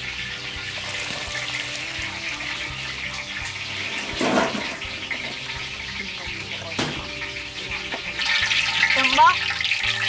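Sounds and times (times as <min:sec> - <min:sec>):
water running in metal basin: 0:00.0 - 0:10.0.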